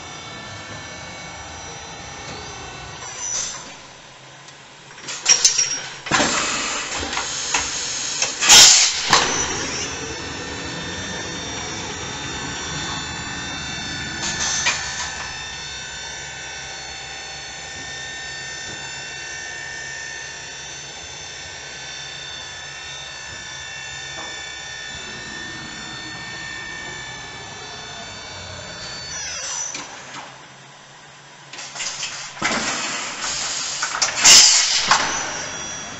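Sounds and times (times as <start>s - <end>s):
machine high whine: 0.0s - 35.9s.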